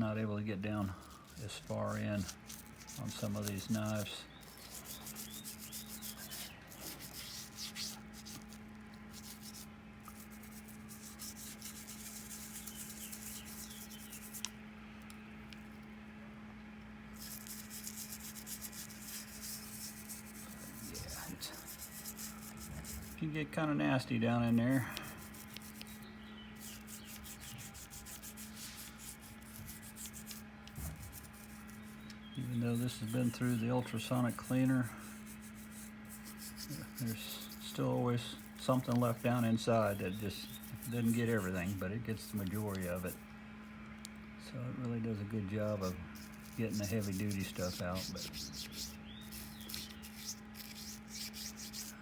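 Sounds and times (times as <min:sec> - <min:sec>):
brush scrubbing: 0:00.7 - 0:14.5, 0:17.2 - 0:23.3, 0:24.4 - 0:26.0, 0:26.6 - 0:43.2, 0:45.6 - 0:51.9.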